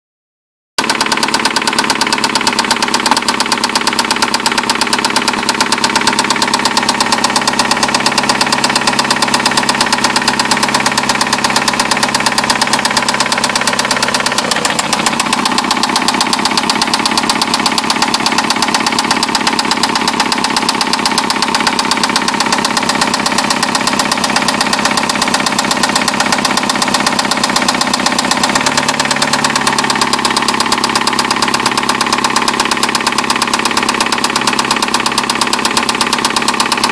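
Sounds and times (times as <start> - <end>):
car engine knocking: 0.8 - 36.9.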